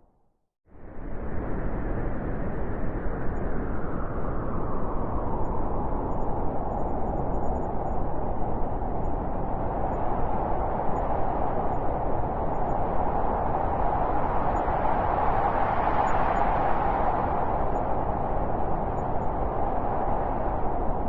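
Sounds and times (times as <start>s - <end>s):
blizzard wind blowing: 0.7s - 21.0s.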